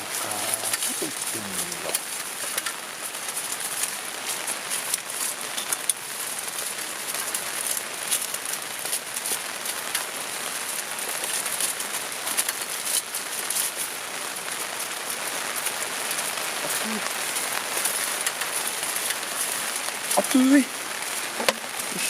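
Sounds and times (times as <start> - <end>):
raindrops tapping: 0.0 - 22.0
steady rain falling: 0.0 - 22.0.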